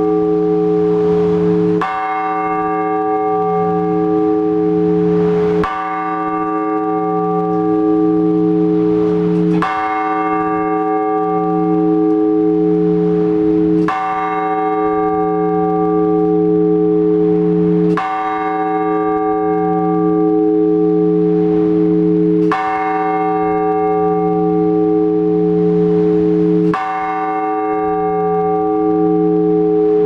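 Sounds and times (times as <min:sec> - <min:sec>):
large church bell ringing: 0:00.0 - 0:30.0.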